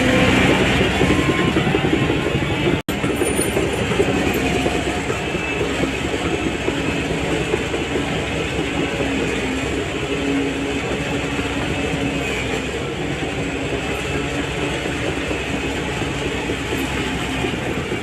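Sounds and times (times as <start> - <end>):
bulldozer diesel engine: 0.0 - 18.0
steel tracks rattling: 0.0 - 18.0.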